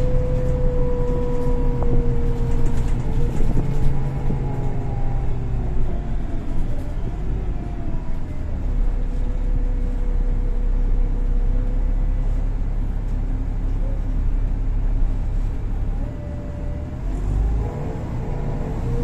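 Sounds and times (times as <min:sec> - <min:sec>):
bus engine and road rumble: 0:00.0 - 0:19.0
drivetrain whine: 0:00.0 - 0:19.0.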